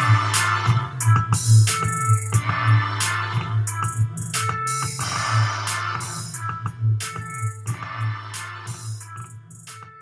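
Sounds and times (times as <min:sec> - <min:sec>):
music with strong bass and beat: 0:00.0 - 0:10.0.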